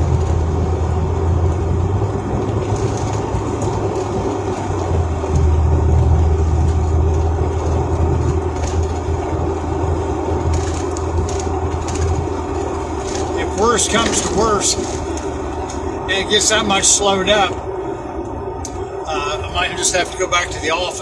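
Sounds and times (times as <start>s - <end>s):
car engine hum: 0.0s - 21.0s
road noise inside car: 0.0s - 21.0s.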